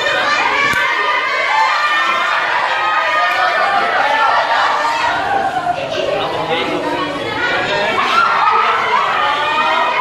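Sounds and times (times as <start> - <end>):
teenagers talking: 0.0 - 10.0.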